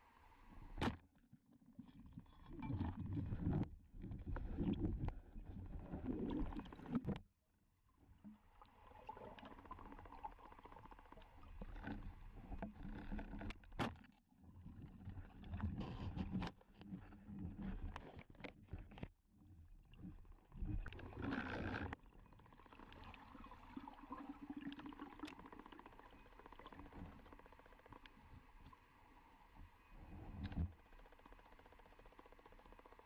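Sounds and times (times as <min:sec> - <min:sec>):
muffled underwater water movement: 0:01.6 - 0:07.2, 0:08.0 - 0:33.0.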